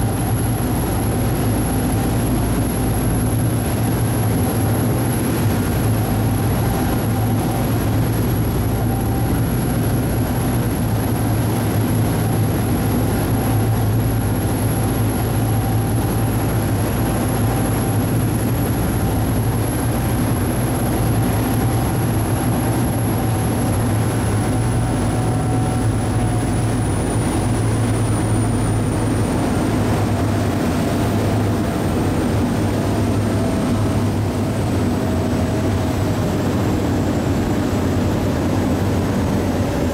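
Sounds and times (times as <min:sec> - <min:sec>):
ferry engines humming: 0:00.0 - 0:39.9.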